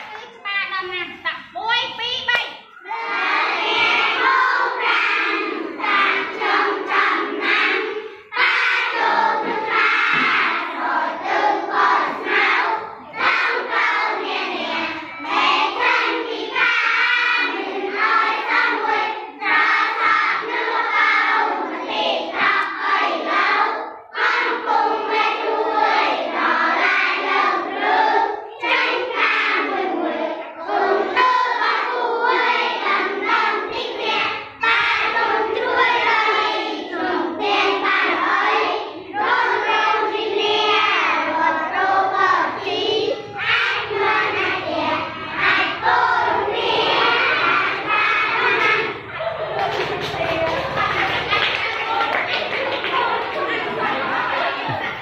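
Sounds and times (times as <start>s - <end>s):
children singing in unison: 2.6s - 55.0s.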